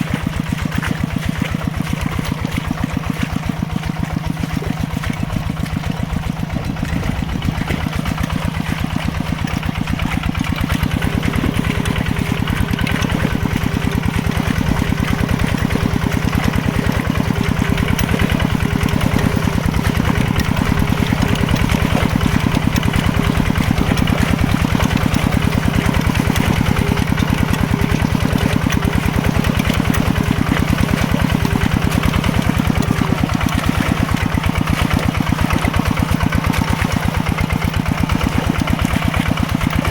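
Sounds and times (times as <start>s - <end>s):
mini tractor engine chugging: 0.0s - 39.9s.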